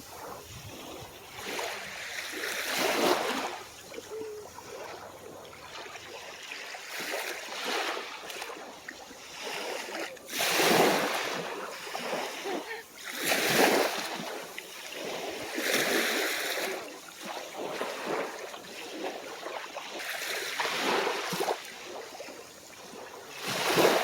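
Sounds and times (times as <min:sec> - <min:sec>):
small waves breaking on shore: 0:00.0 - 0:24.0.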